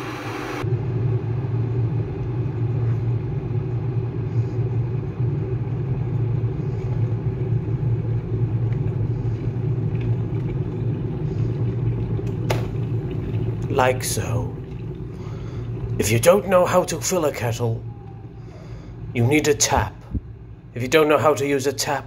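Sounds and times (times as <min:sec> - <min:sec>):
electric kettle rumbling: 0:00.0 - 0:22.0.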